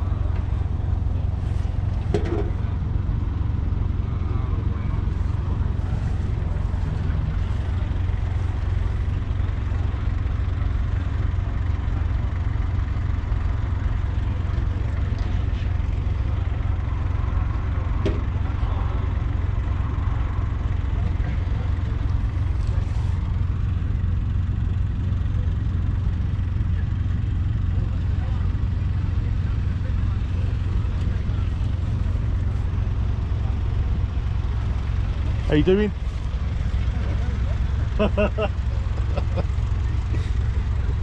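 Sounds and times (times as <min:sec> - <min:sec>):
tractor diesel engine idling: 0:00.0 - 0:41.0.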